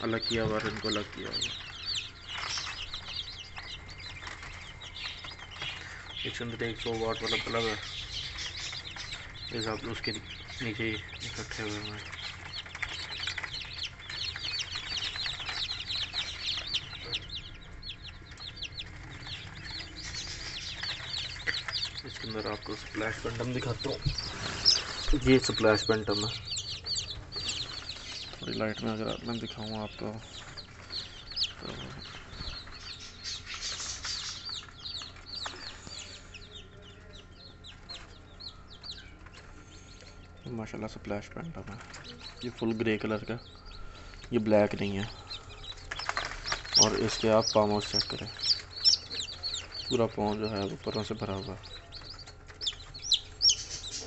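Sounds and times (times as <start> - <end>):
chicks peeping: 0.0 - 54.0
low steady hum: 0.0 - 54.0.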